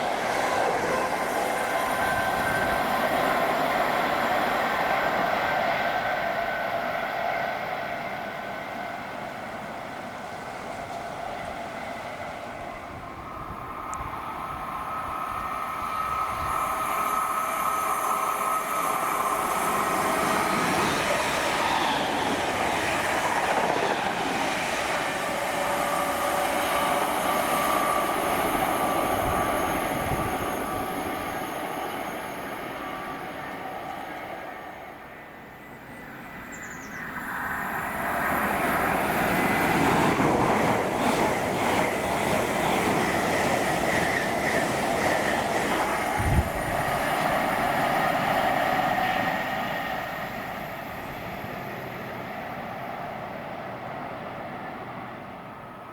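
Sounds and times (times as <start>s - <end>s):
train passing at speed: 0.0s - 55.9s.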